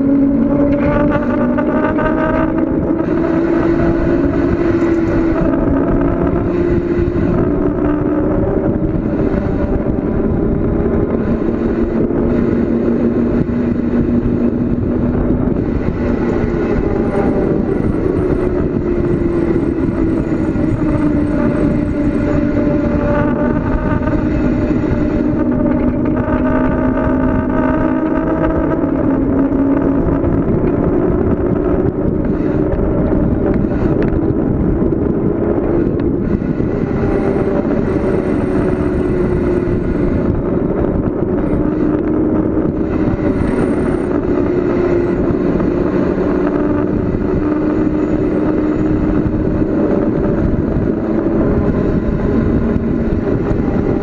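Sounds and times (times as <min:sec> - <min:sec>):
humming tone drifting in pitch: 0:00.0 - 0:54.0
wind rushing on microphone: 0:00.0 - 0:54.0.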